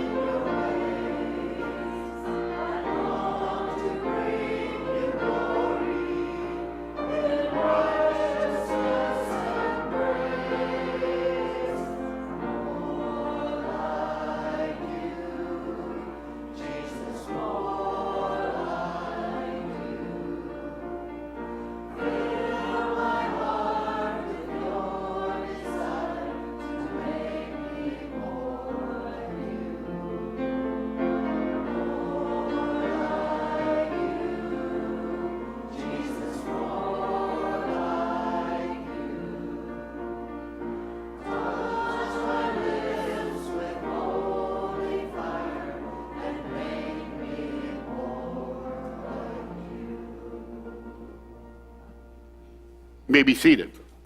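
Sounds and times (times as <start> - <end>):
choir singing a hymn: 0.0 - 53.7.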